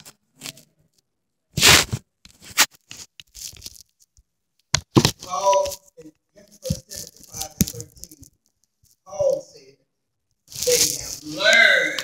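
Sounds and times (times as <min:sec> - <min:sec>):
rustling crackling noise: 0:00.0 - 0:09.5, 0:10.3 - 0:12.0.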